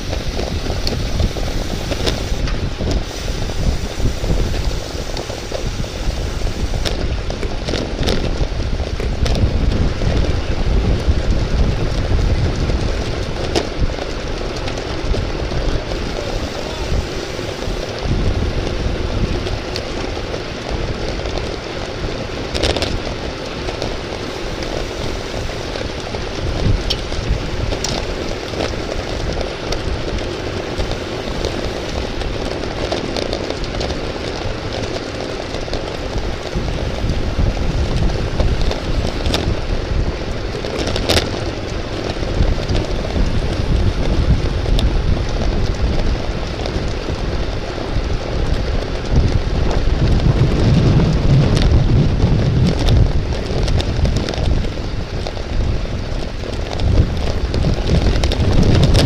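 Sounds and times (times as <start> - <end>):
road and tyre noise: 0.0 - 59.0
wind rushing over microphone: 0.0 - 59.0.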